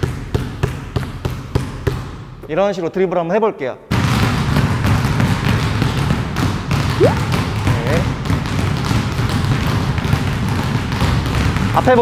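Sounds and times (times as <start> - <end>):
basketballs bouncing on gym court: 0.0 - 2.3, 3.9 - 12.0.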